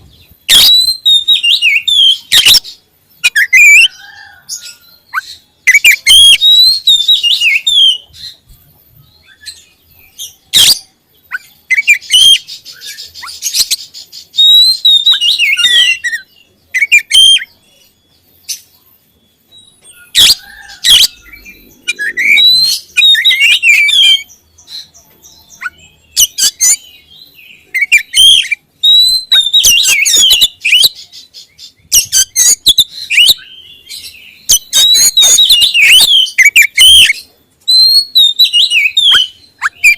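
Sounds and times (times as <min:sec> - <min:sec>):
bird singing whistled phrases: 0:00.5 - 0:08.4, 0:09.0 - 0:39.9.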